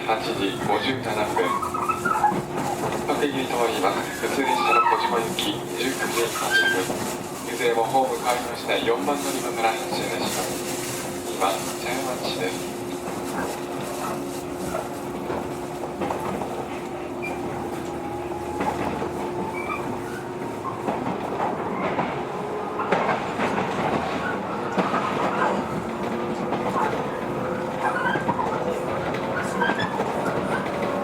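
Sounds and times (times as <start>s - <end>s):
wheels clacking over rail joints: 0.0s - 31.0s
wheels rumbling on rails: 0.0s - 31.0s.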